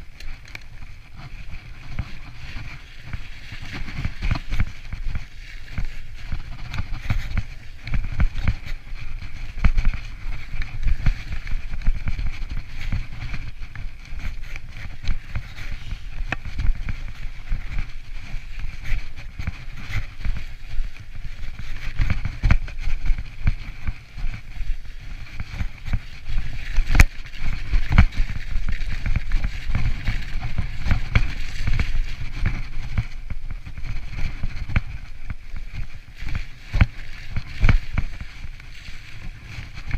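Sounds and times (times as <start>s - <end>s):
bike rattling over bumps: 0.0s - 39.9s.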